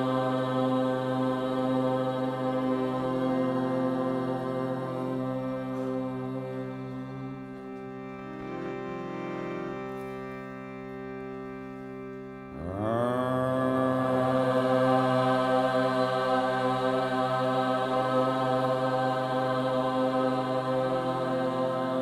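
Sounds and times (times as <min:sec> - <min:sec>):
slow chanted mantra: 0:00.0 - 0:22.0
sustained drone: 0:00.0 - 0:22.0.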